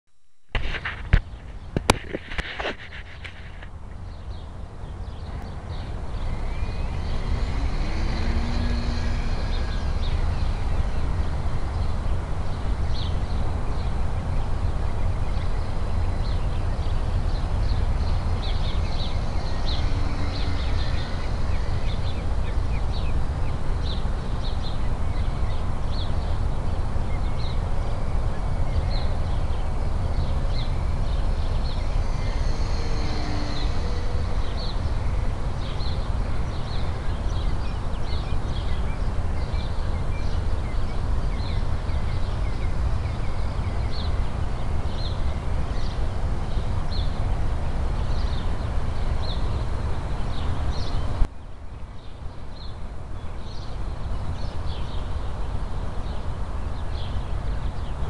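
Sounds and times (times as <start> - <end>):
wind buffeting microphone: 0.6 - 58.0.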